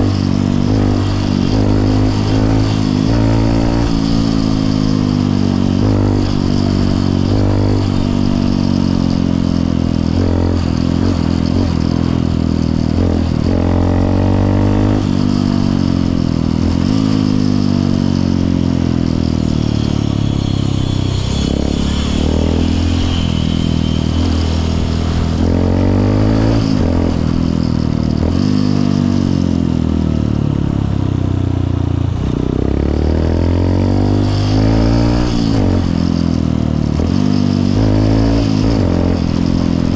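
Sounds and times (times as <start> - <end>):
motorcycle engine accelerating: 0.0 - 39.9
road noise: 0.0 - 39.9.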